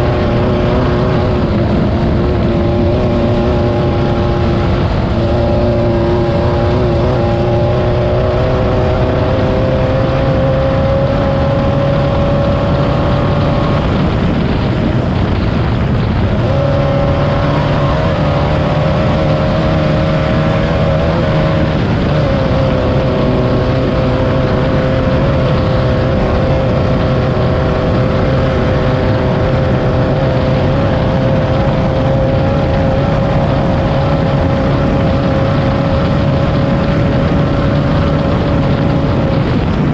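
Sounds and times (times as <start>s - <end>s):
constant rushing noise: 0.0s - 39.9s
race car engine running hard: 0.0s - 39.9s.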